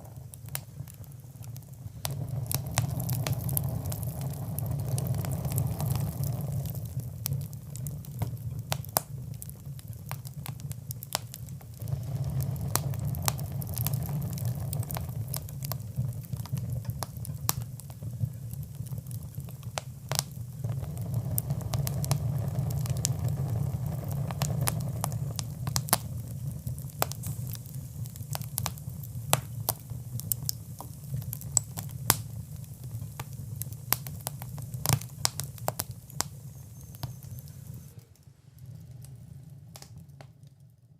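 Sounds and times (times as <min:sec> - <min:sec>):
fire pops and snaps: 0:00.0 - 0:40.9
low rumble of flames: 0:00.0 - 0:40.9.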